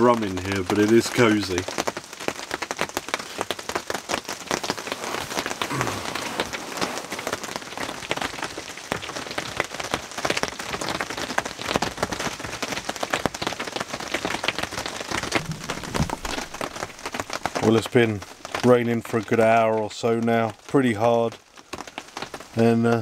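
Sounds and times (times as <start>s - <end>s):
rain on cardboard: 0.0s - 23.0s.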